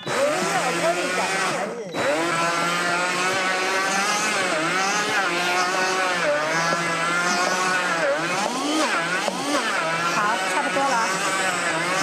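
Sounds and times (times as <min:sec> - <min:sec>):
blender motor grinding: 0:00.0 - 0:12.0.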